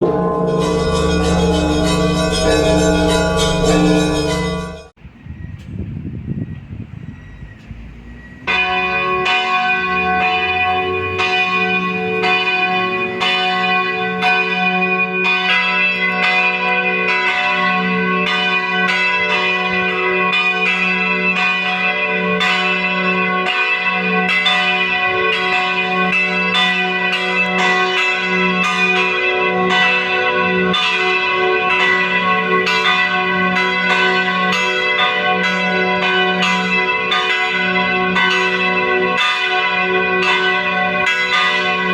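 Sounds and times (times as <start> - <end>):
church bells ringing: 0.0 - 5.0, 8.3 - 41.9.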